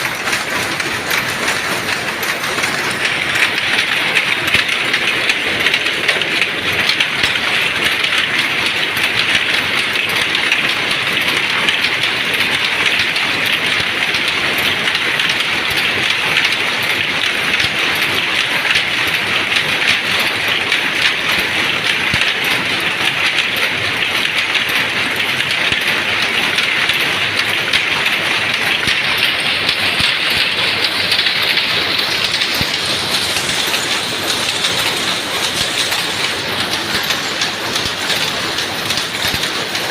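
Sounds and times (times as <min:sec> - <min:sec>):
power loom clattering: 0:00.0 - 0:39.9.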